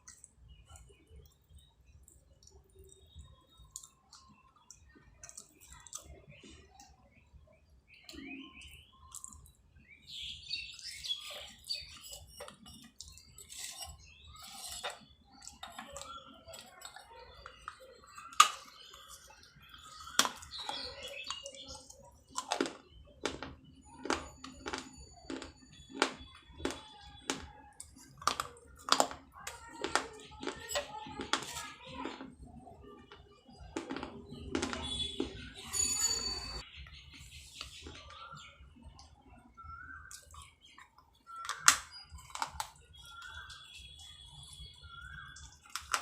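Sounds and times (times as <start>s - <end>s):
pottery being chewed crunching: 0.0s - 7.1s, 8.0s - 9.7s, 10.7s - 36.6s, 39.8s - 46.0s.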